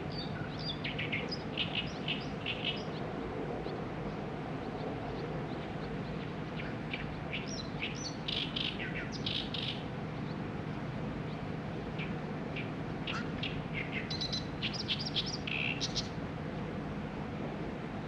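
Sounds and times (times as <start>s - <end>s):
small songbirds chirping: 0.0s - 16.2s
low background hum: 0.0s - 18.0s.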